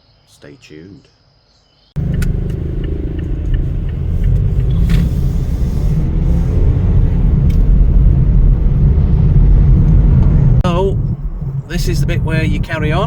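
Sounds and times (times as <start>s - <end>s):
car engine and road noise: 2.0s - 13.0s.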